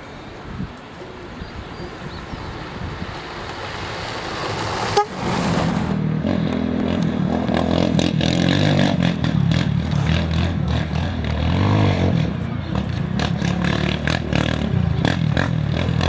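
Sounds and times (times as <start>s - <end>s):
off-road rally engine approaching: 0.0s - 16.0s.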